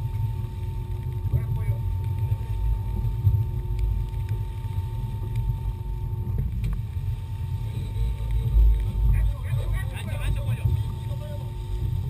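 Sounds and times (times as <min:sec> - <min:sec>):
outboard motors rumbling: 0:00.0 - 0:12.0
wind buffeting microphone: 0:00.0 - 0:12.0.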